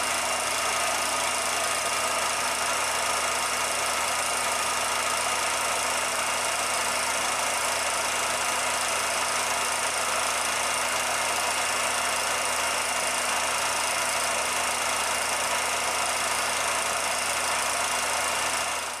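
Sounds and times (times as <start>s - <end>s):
machine running with hum and hiss: 0.0s - 19.0s.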